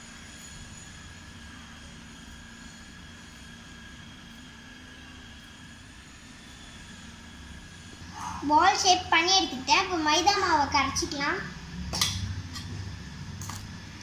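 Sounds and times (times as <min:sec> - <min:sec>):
faint high whine: 0:00.0 - 0:14.0
low background hum: 0:00.0 - 0:14.0.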